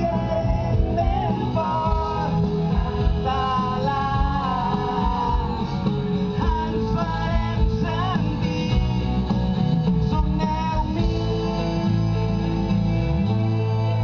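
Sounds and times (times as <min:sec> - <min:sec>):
man singing: 0:00.0 - 0:11.9
guitar: 0:00.0 - 0:14.0.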